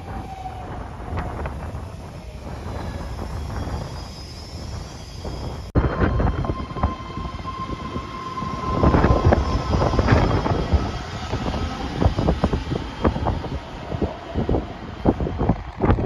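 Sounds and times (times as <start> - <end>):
steady high whine: 1.0 - 16.0.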